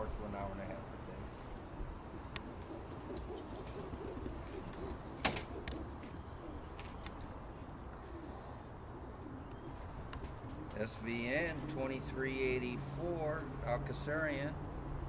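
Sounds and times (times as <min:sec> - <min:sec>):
pigeons cooing: 0:00.8 - 0:15.0.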